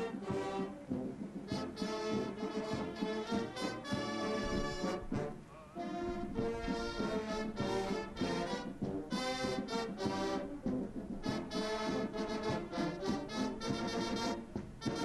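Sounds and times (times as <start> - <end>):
brass band playing slow chords: 0.0 - 15.0.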